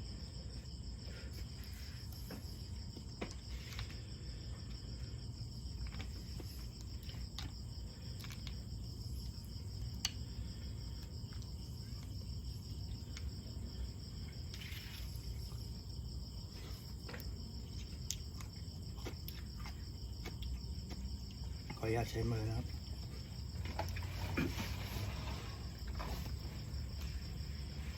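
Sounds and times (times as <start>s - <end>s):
cricket trilling: 0.0s - 27.9s.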